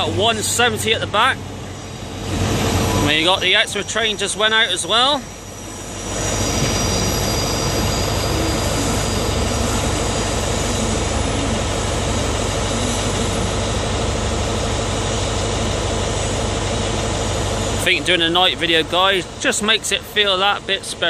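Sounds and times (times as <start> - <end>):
diesel train engine idling: 0.0 - 21.0.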